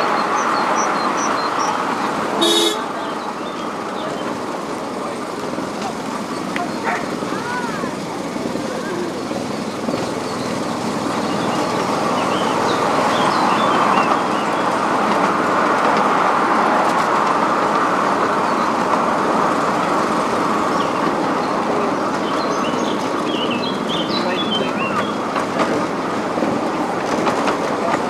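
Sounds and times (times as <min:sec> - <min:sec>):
train wheels on rails: 0:00.0 - 0:28.0.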